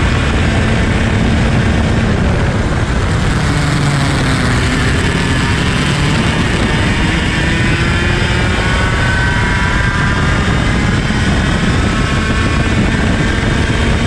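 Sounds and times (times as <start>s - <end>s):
kart engine running hard: 0.0s - 14.0s.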